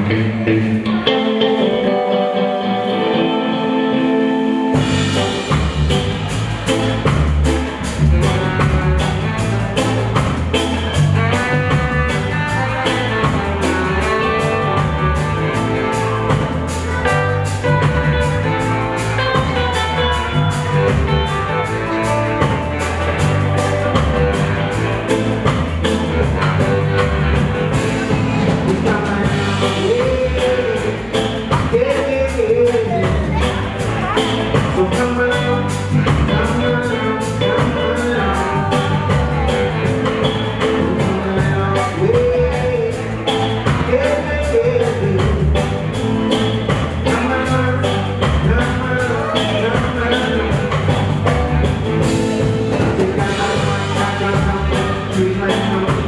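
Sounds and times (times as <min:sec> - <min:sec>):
bass line: 0:00.0 - 0:56.0
guitar chords: 0:00.0 - 0:56.0
drum kit with cymbals: 0:04.6 - 0:56.0.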